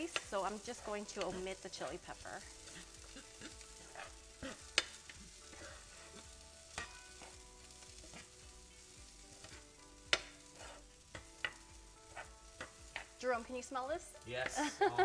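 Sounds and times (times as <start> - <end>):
utensil scraping a frying pan: 0.0 - 13.2
low sizzle: 0.0 - 15.0.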